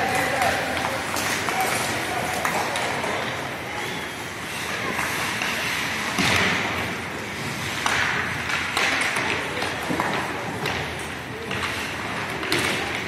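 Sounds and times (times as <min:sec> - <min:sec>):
hockey sticks and puck clacking: 0:00.0 - 0:13.0
skates on ice: 0:00.0 - 0:13.0.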